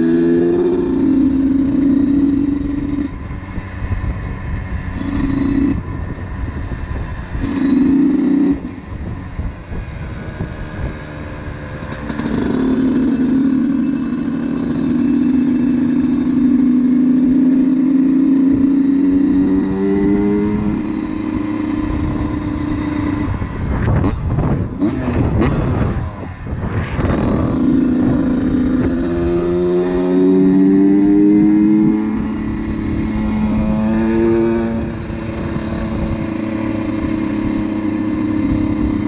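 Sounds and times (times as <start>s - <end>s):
two-stroke motorcycle engine: 0.0s - 39.0s.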